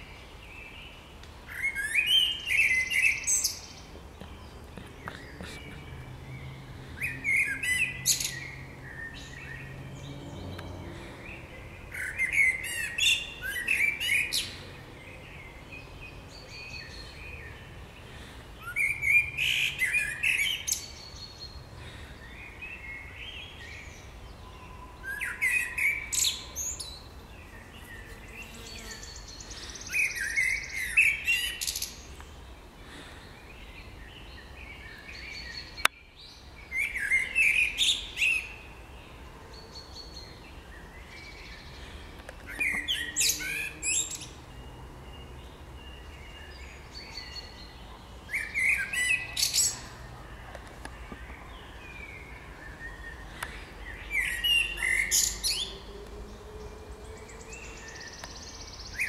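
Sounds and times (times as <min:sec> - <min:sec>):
blackbird singing: 0:00.0 - 0:59.0.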